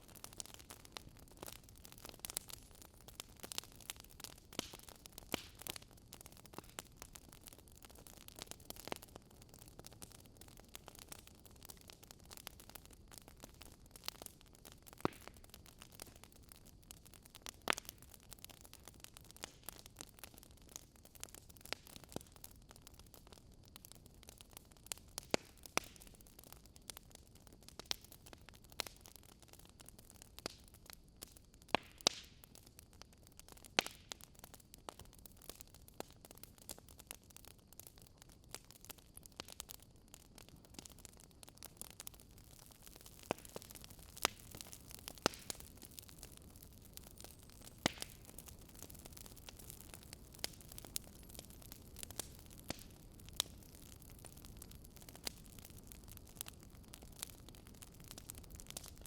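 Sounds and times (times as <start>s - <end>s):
soft steady hiss: 0.0s - 59.0s
wood fire crackling and popping: 0.0s - 59.0s.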